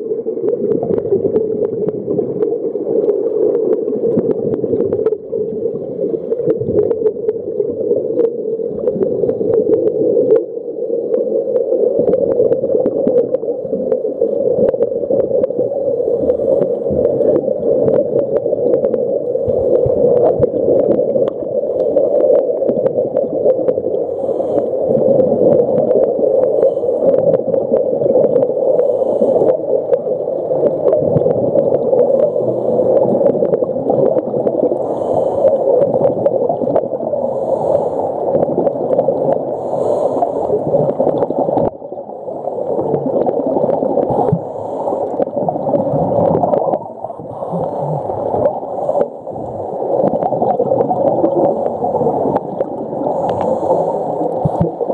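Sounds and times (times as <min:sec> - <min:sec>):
crackling clicks underwater: 0:00.0 - 0:54.9
underwater water and bubbles gurgling: 0:00.0 - 0:54.9.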